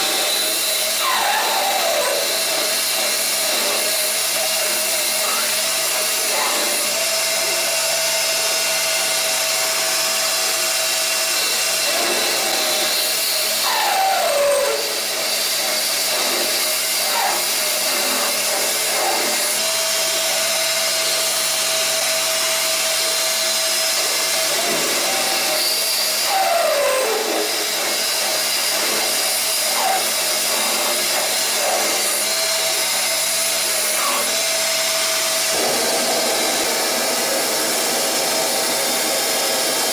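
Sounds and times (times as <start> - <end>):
lathe whirring and hissing: 0.0 - 39.9.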